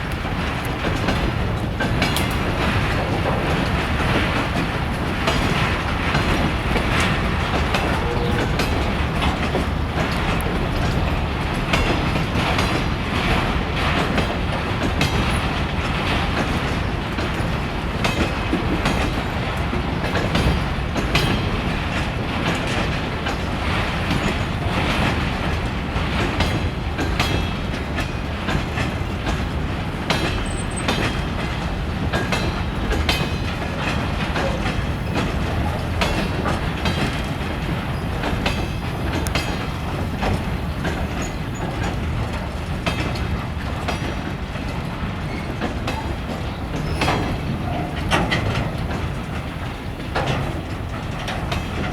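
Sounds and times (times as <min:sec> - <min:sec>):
train rumbling: 0:00.0 - 0:51.9
wheels clicking over rail joints: 0:00.0 - 0:51.9.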